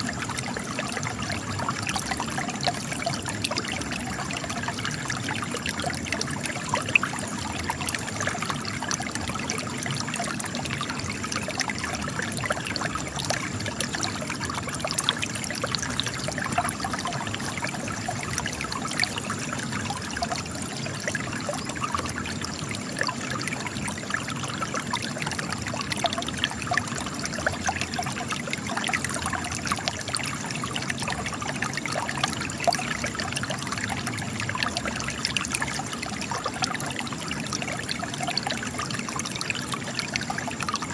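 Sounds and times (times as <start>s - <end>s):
spring water trickling over rock: 0.0s - 40.9s.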